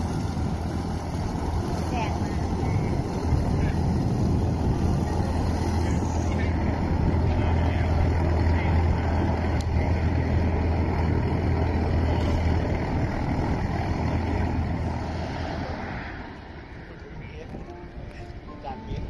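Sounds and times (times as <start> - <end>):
propeller plane engine droning: 0.0 - 19.0.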